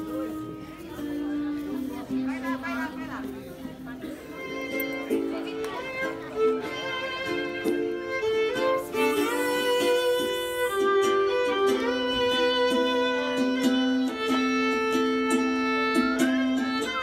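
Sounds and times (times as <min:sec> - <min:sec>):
violin slow melody: 0:00.0 - 0:17.0.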